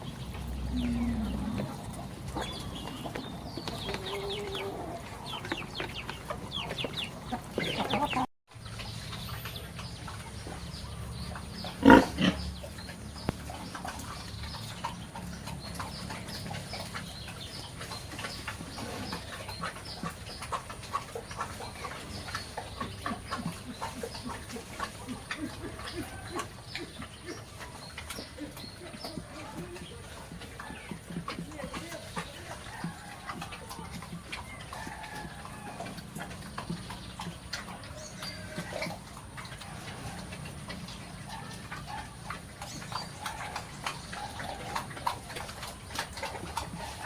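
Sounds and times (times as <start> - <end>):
chickens clucking and peeping: 0.0 - 47.0.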